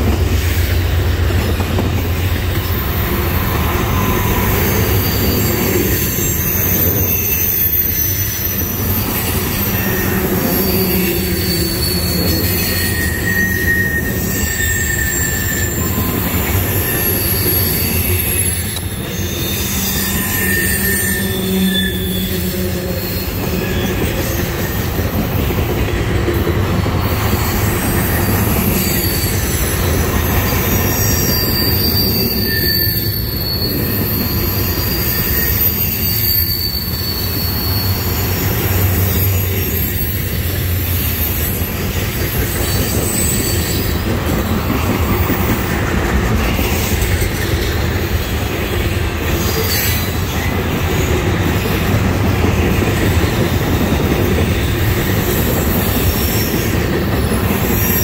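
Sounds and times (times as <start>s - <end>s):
train wheels rumbling on rail: 0.0s - 58.0s
high-pitched wheel squeal: 0.3s - 26.1s, 26.9s - 58.0s.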